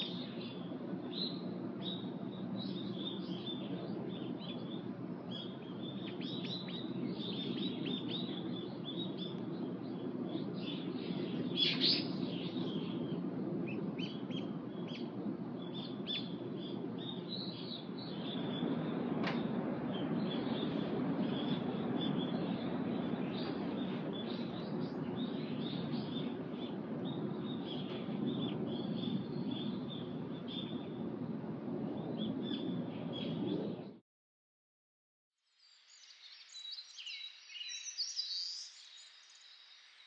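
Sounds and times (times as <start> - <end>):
low background hum: 0.0 - 34.0
small birds chirping: 0.0 - 34.0, 35.6 - 40.0.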